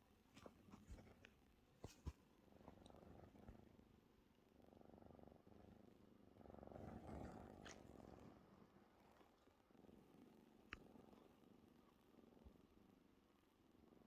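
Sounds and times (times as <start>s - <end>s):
cat purring faintly: 0.0s - 14.0s.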